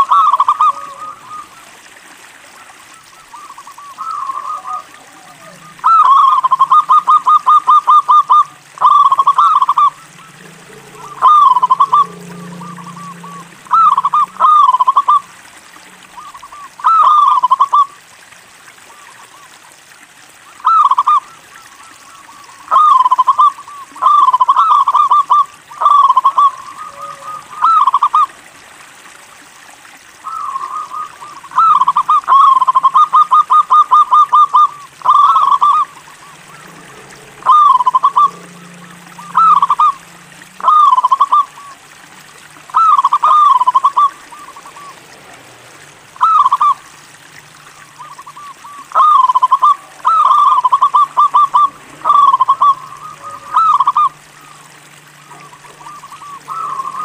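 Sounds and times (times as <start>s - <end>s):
dove cooing: 0.0s - 1.8s, 2.9s - 18.0s, 22.3s - 28.4s, 30.2s - 45.1s, 46.2s - 46.8s, 48.0s - 57.0s.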